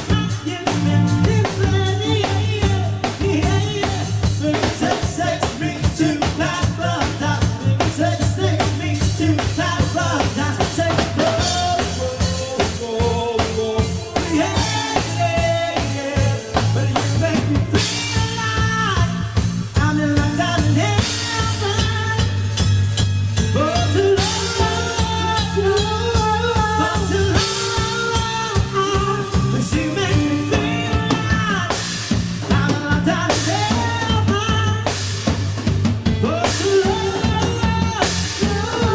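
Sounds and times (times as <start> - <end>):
person singing: 0.0 - 22.6, 23.5 - 35.0, 36.1 - 38.9
bass: 0.0 - 38.9
drum-kit beat: 0.0 - 38.9.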